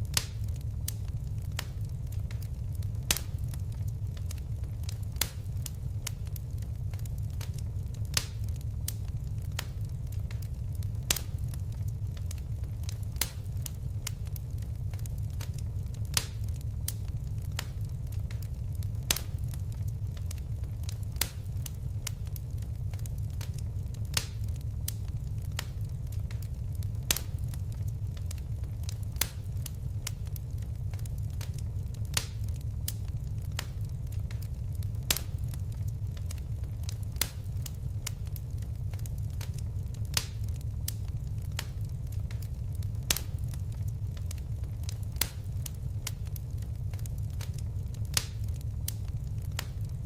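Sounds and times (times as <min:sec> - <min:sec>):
fire snapping and popping: 0:00.0 - 0:50.0
wood fire crackling: 0:00.0 - 0:50.0.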